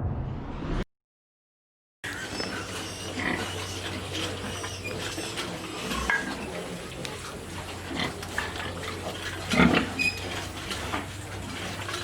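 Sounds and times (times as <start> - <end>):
pigs grunting: 2.1 - 12.0.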